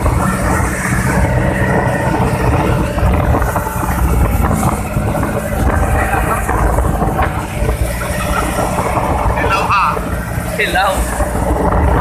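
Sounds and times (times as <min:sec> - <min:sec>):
boat engine running: 0:00.0 - 0:12.0
water noise: 0:00.0 - 0:12.0
wind: 0:00.0 - 0:12.0.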